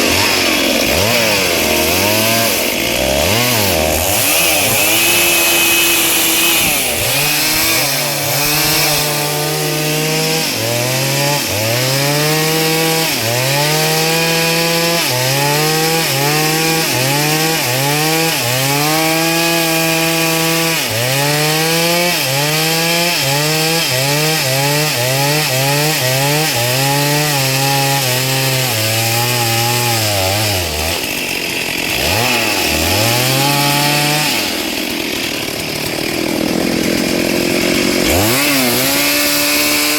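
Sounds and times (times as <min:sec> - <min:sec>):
chainsaw cutting into log: 0:00.0 - 0:39.9.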